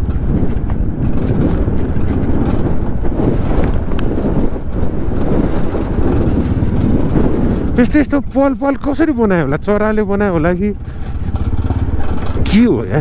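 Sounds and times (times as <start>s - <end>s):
motorcycle engine: 0.0s - 13.0s
wind rumble on microphone: 0.0s - 13.0s.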